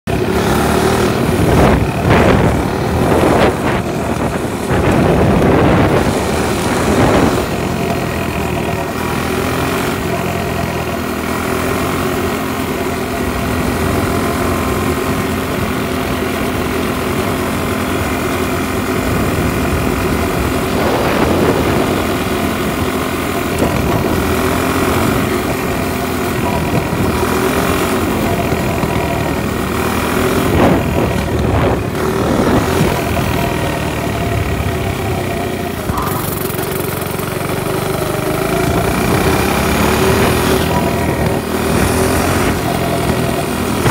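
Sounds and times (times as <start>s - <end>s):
small vehicle engine running: 0.0s - 43.9s.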